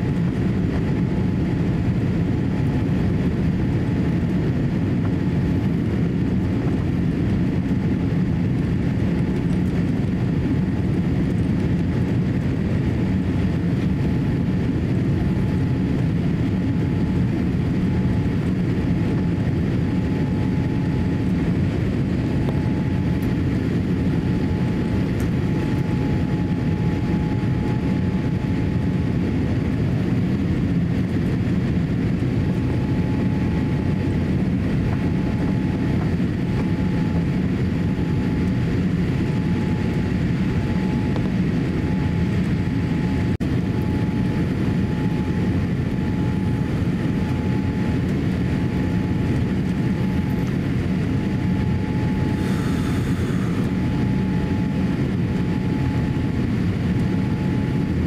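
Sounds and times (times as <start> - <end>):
engine and airflow roar: 0.0 - 58.0
faint steady whine: 0.0 - 58.0.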